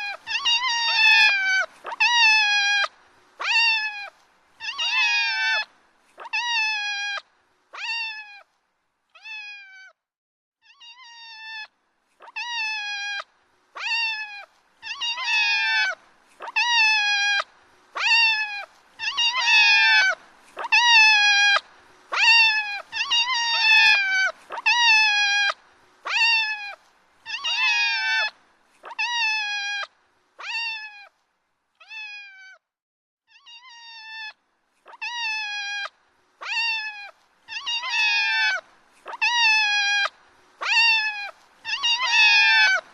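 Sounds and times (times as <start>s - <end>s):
kittens meowing: 0.0s - 7.2s, 7.8s - 8.4s, 10.6s - 13.2s, 13.8s - 17.4s, 18.0s - 28.3s, 28.9s - 31.1s, 33.3s - 42.8s.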